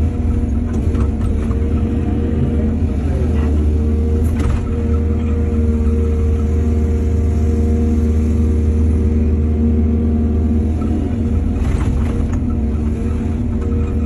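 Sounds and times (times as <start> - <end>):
diesel excavator engine rumbling: 0.0 - 14.0.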